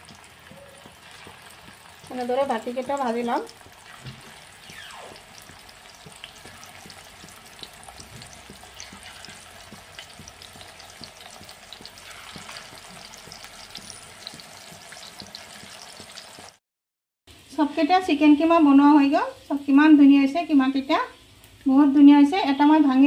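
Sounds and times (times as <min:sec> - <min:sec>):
patties sizzling in oil: 0:00.0 - 0:16.6, 0:17.3 - 0:23.0.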